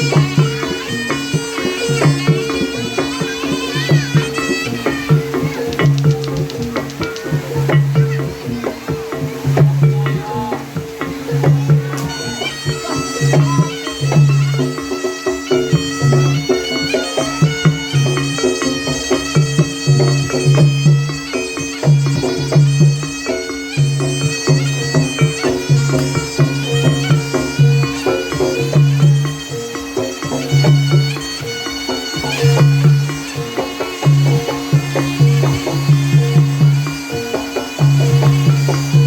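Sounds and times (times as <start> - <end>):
drum strokes: 0.0 - 39.0
shrill reed pipe melody: 0.0 - 39.0
steady chiming tones: 0.0 - 39.0.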